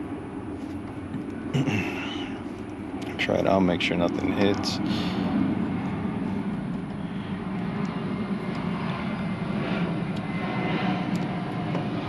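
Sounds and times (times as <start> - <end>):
low engine-like drone: 0.0 - 12.0.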